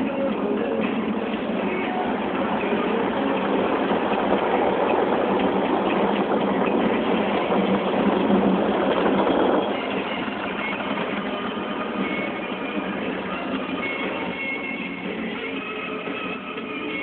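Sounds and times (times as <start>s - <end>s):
car wash jets spraying water: 0.0s - 17.0s.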